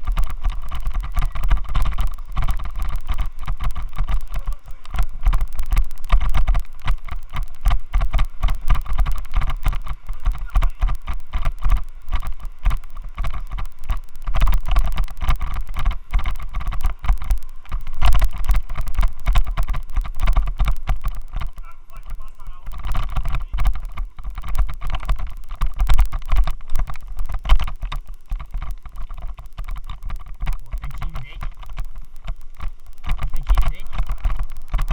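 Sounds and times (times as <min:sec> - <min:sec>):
camera mount rattling and buffeting: 0:00.0 - 0:34.9.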